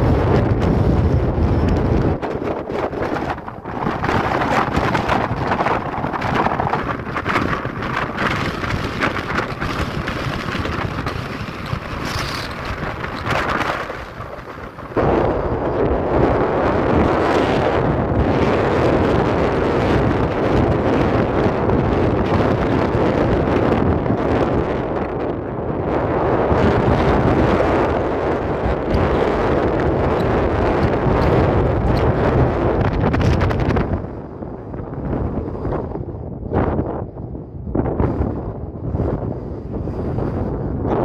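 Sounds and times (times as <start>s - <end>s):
wind gusting against microphone: 0.0s - 41.0s.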